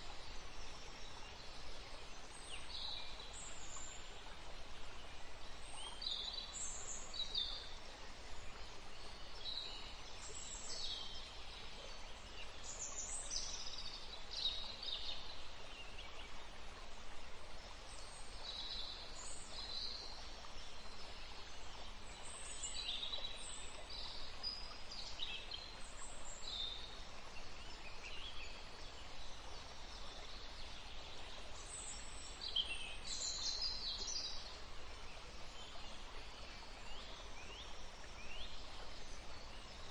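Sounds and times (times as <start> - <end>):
small stream rushing: 0.0 - 39.9.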